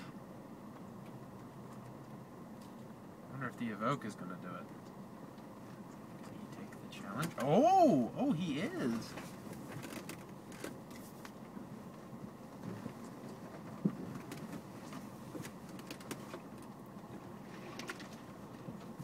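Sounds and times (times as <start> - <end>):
low vehicle cabin rumble: 0.0 - 19.0
body and interior rattles: 0.7 - 19.0.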